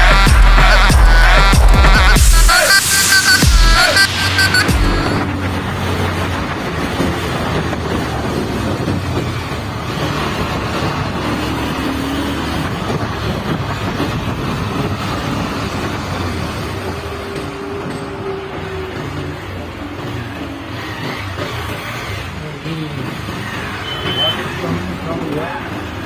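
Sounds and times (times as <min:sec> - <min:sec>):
wind and road noise: 0:02.6 - 0:26.0
motorcycle engine running: 0:04.7 - 0:26.0.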